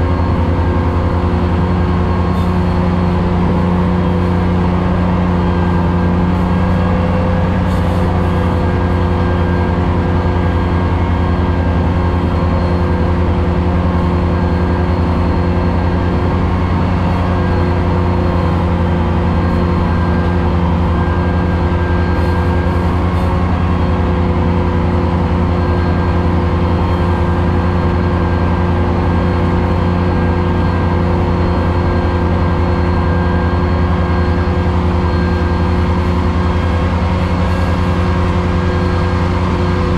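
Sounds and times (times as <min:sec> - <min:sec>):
tractor engine drone: 0:00.0 - 0:39.9.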